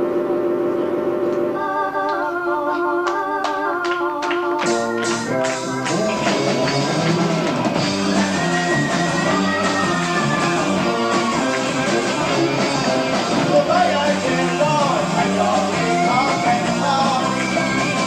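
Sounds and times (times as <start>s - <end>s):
electric guitar: 0.0s - 18.0s
sustained keyboard chords: 0.0s - 18.0s
drums: 2.8s - 18.0s.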